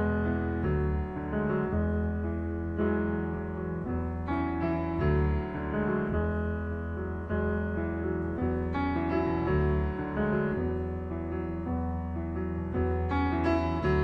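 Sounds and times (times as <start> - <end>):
solo piano playing: 0.0 - 14.0.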